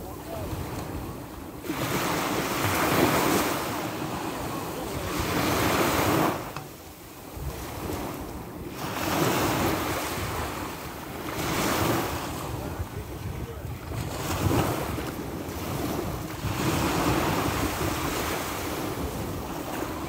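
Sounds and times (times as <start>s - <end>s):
sea waves washing in: 0.0s - 20.0s
wind rumbling on microphone: 0.0s - 20.0s.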